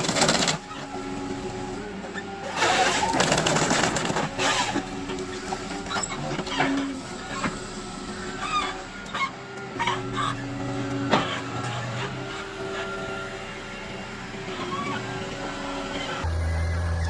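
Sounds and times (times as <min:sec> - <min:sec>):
harvester engine hum: 0:00.0 - 0:17.0.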